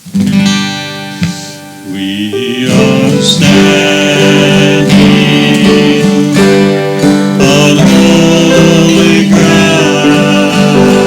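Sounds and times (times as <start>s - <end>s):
strummed acoustic guitar: 0.0s - 11.0s
person singing: 1.2s - 11.0s.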